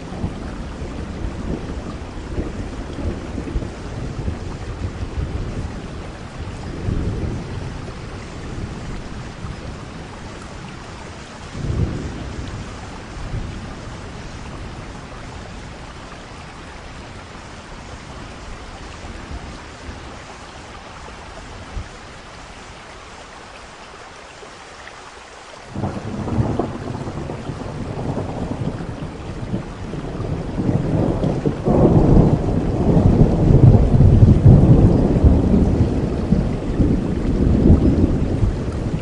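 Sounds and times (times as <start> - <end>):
thunder rumbling: 0.0 - 20.8, 25.7 - 39.0
rain hissing: 0.0 - 39.0.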